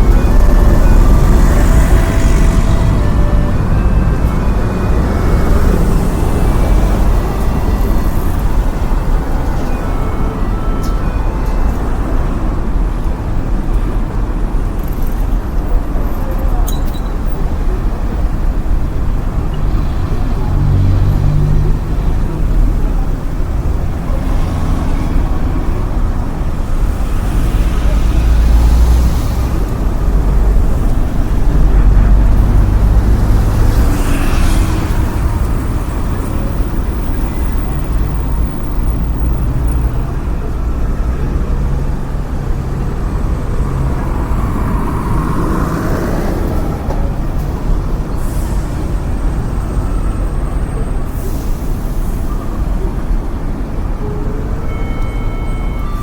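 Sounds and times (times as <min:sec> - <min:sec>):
cars passing by: 0:00.0 - 0:56.0
road traffic rumble: 0:00.0 - 0:56.0.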